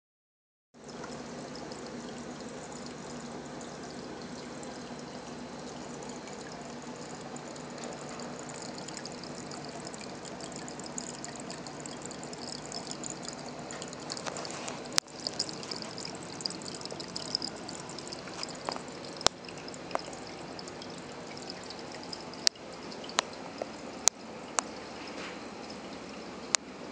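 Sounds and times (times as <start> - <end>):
water pouring and trickling: 0.8 - 26.9.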